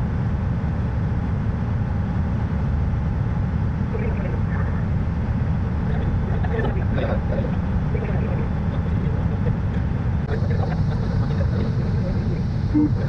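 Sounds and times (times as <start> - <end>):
cockpit airflow and engine rumble: 0.0 - 13.0.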